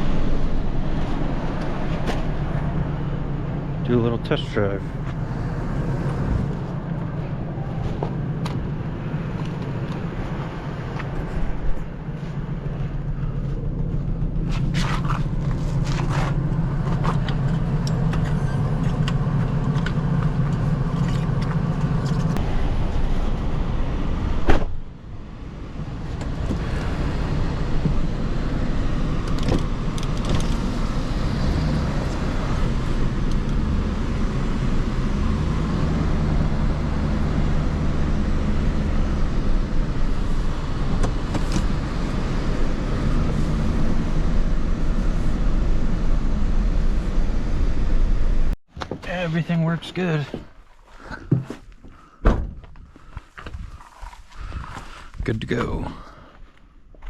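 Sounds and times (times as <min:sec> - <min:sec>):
vehicle engine droning: 0:00.0 - 0:52.1.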